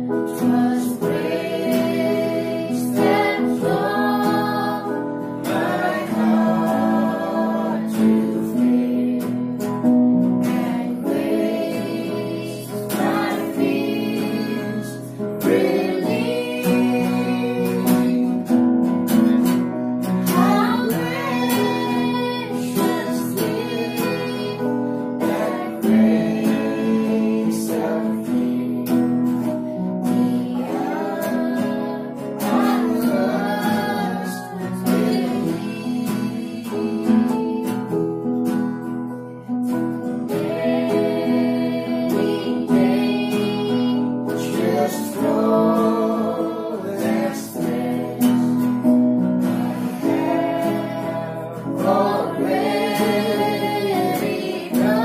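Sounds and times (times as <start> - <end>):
woman singing: 0.0 - 9.6, 10.4 - 18.4, 20.2 - 28.9, 29.8 - 37.9, 40.3 - 48.6, 49.4 - 55.0
strummed acoustic guitar: 0.0 - 55.0.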